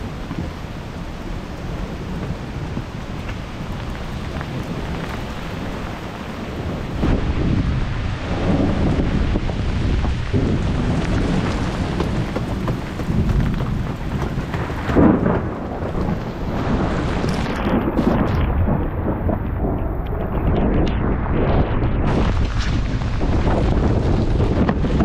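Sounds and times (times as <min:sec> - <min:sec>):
heavy rain: 0:00.0 - 0:25.0
thunder rumbling: 0:00.0 - 0:25.0.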